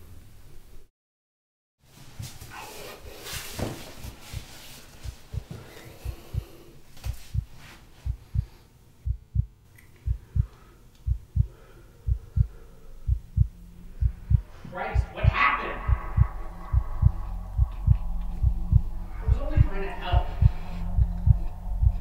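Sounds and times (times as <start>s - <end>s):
heartbeat thumps: 3.6s - 22.0s.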